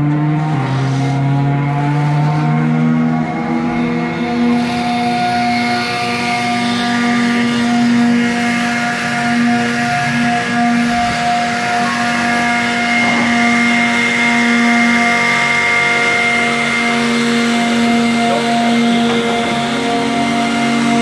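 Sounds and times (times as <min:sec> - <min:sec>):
car engine idling: 0:03.2 - 0:21.0.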